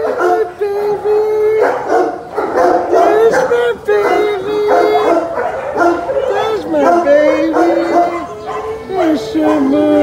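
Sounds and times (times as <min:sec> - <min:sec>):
dogs whining and howling: 0:00.0 - 0:00.6, 0:01.5 - 0:10.0.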